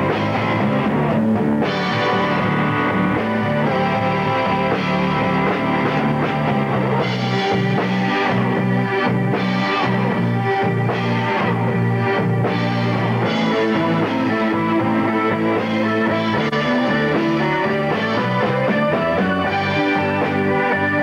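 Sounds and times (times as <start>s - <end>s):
bass line: 0.0s - 21.0s
drums: 0.0s - 21.0s
electric guitar: 0.0s - 21.0s
keyboards: 0.0s - 21.0s.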